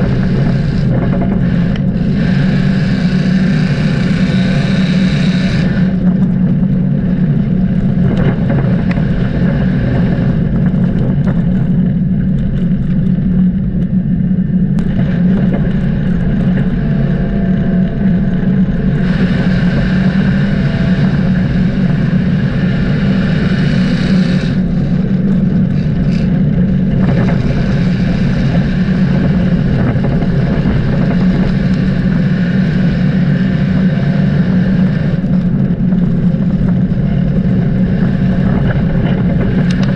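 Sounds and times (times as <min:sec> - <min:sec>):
race car engine drone: 0:00.0 - 0:39.9.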